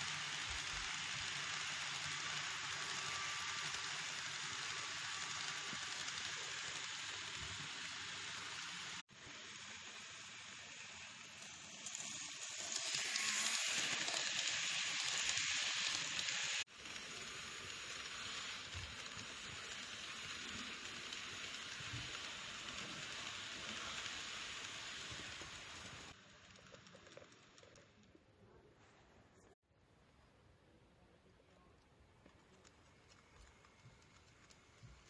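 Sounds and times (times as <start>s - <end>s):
model train whirring on track: 0.0s - 28.4s, 31.6s - 35.0s.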